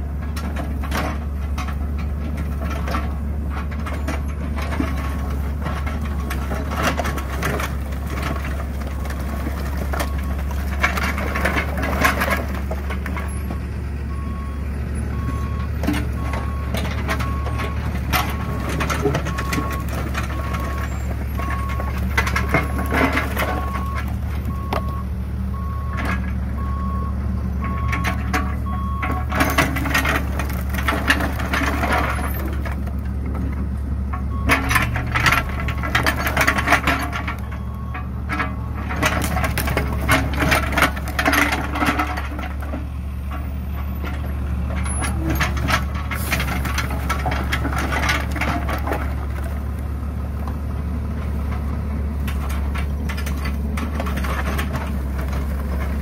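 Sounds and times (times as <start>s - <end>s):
diesel engine running: 0.0s - 56.0s
logs clattering together: 0.3s - 13.3s, 15.8s - 25.0s, 27.6s - 33.5s, 34.1s - 50.6s, 51.2s - 56.0s.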